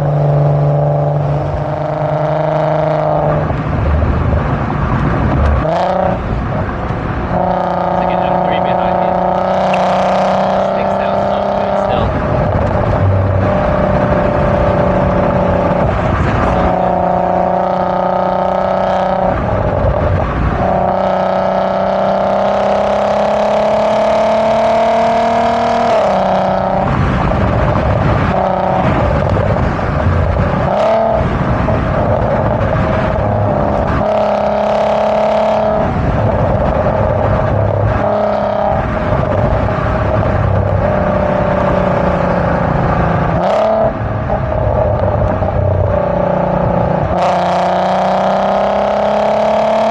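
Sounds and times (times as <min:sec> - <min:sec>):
car engine accelerating through gears: 0:00.0 - 0:49.9.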